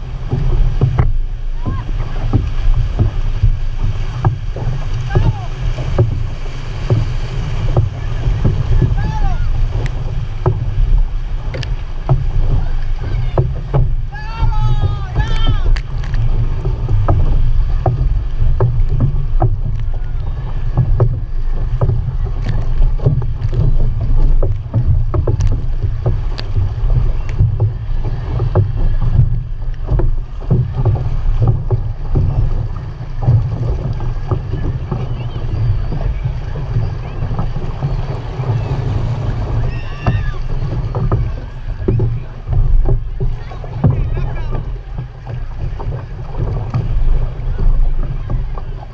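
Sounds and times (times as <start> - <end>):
paddle stroke splashes: 0.0 - 48.9
water rushing along hull: 0.0 - 48.9.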